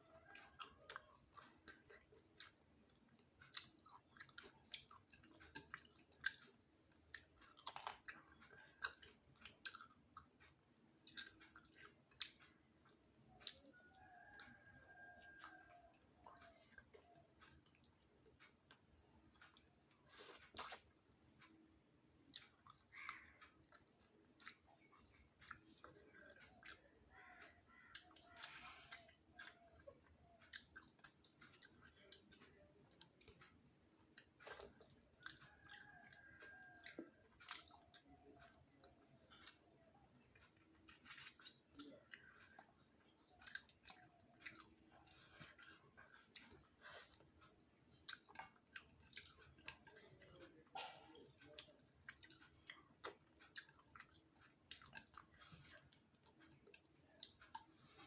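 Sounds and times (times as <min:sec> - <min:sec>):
wet chewing with mouth smacks: 0:00.1 - 0:21.6, 0:22.3 - 0:58.0.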